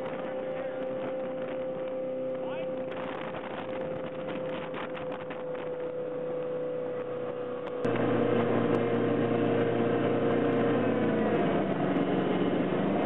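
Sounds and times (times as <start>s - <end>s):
motorboat engine drone: 0.0s - 13.0s
water rushing: 0.0s - 13.0s.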